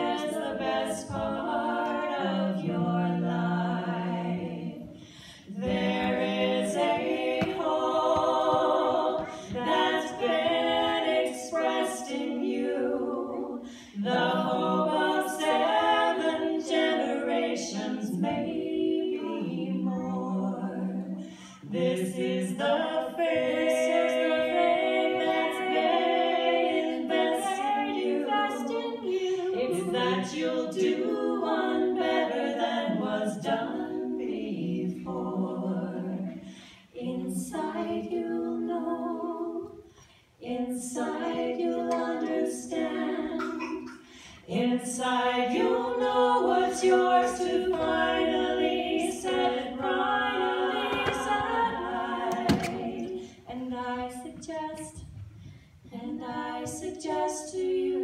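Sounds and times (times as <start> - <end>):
women singing in harmony: 0.0 - 58.0.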